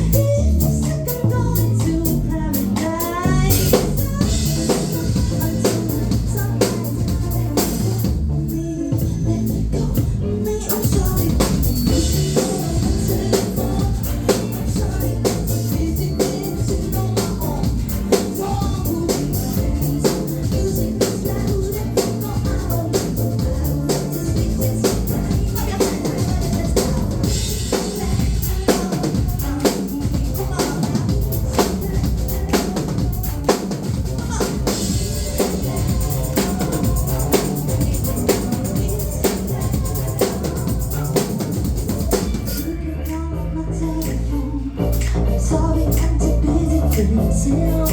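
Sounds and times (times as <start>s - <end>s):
drum kit beat: 0.0s - 42.8s
live band playing: 0.0s - 47.9s
low bass notes: 0.0s - 47.9s.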